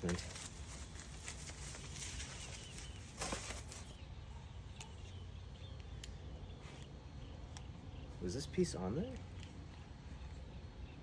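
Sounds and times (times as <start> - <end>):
distant bird chirps: 0.4 - 11.0.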